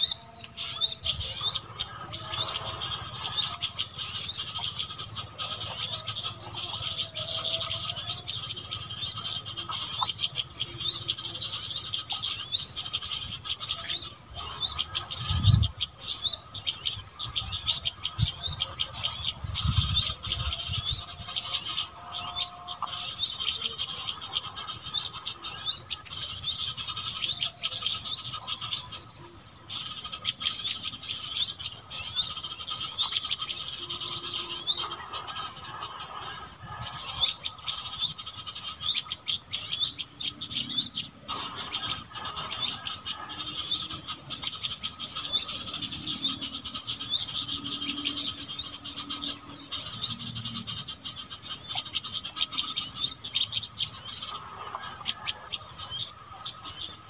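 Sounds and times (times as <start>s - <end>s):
songbirds chattering: 0.0s - 57.0s.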